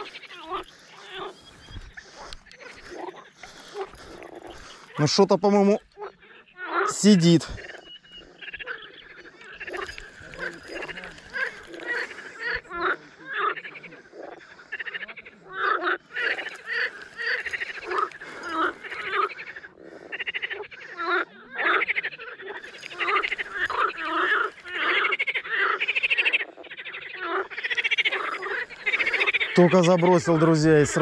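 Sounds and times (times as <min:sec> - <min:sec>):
frogs croaking: 0:00.0 - 0:31.0.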